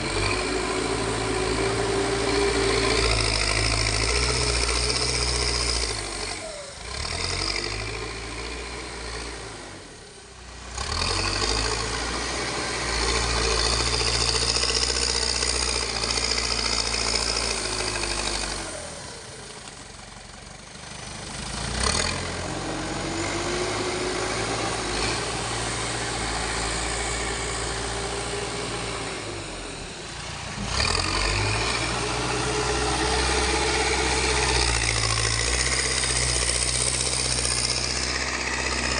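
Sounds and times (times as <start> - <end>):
diesel engine under varying load: 0.0 - 38.9.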